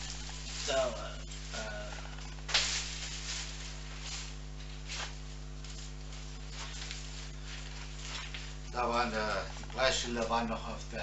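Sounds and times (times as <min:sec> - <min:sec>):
plastic bag rustling: 0:00.0 - 0:11.0
steady low hum: 0:00.0 - 0:11.0.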